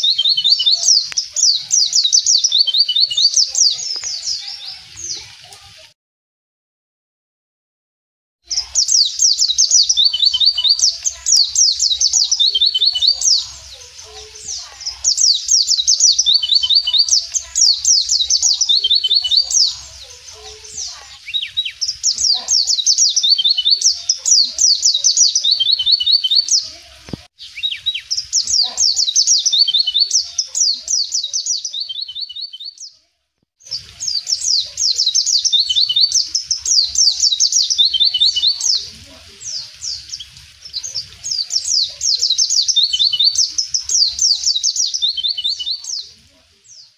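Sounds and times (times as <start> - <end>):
bird twittering song: 0.0 - 5.6, 8.5 - 33.0, 33.6 - 46.9.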